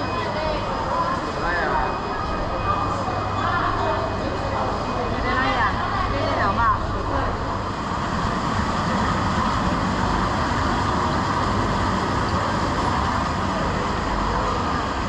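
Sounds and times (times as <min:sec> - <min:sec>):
market hall ambient rush: 0:00.0 - 0:15.0.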